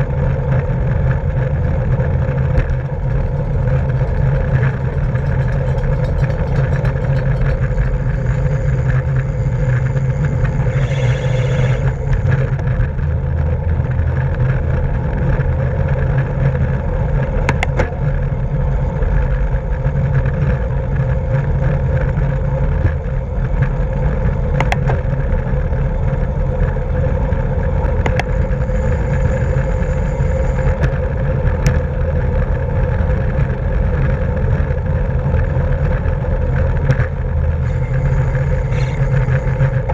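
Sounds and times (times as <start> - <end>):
road noise: 0.0 - 39.9
wind rush on microphone: 0.0 - 39.9.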